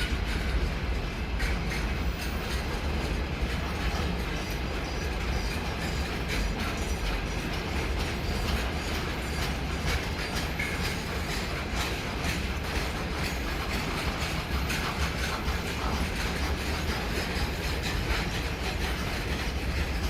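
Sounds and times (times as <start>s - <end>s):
train low rumble: 0.0s - 20.0s
train wheels clattering: 0.0s - 20.0s.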